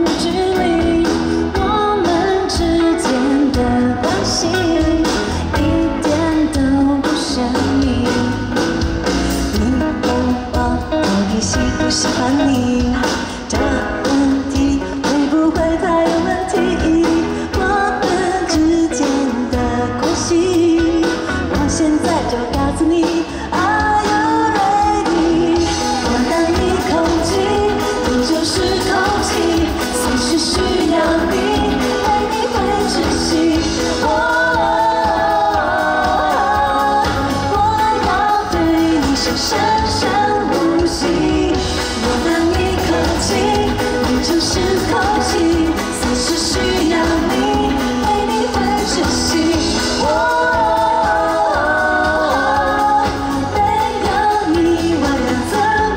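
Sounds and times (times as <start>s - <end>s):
lead singer singing: 0.0s - 55.9s
pop-rock band playing: 0.0s - 55.9s.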